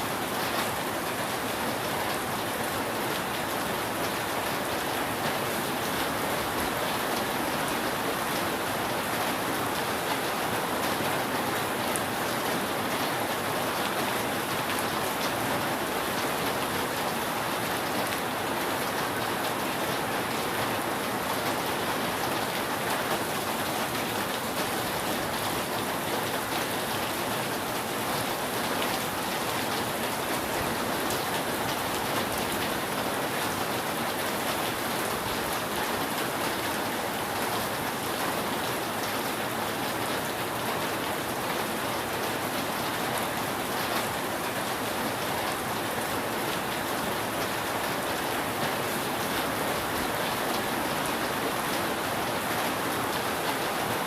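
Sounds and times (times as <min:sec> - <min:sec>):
rain pattering on a roof: 0:00.0 - 0:54.0.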